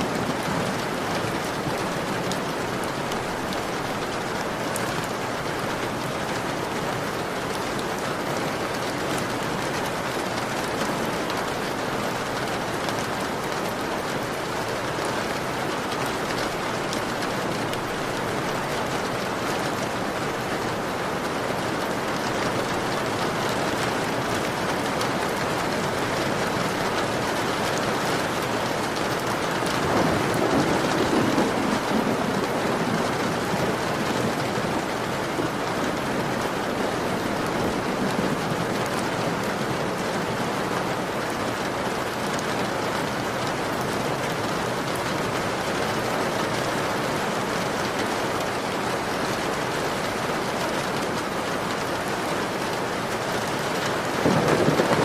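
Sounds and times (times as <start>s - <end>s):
heavy rain on a window: 0.0s - 55.0s.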